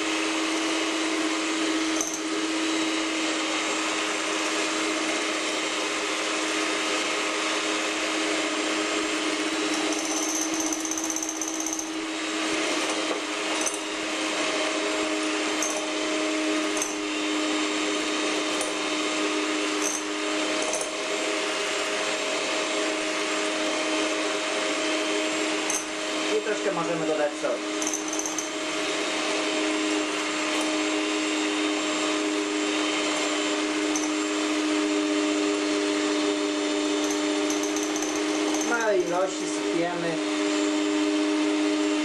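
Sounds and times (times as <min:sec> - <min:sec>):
electric hand mixer whipping: 0:00.0 - 0:42.0.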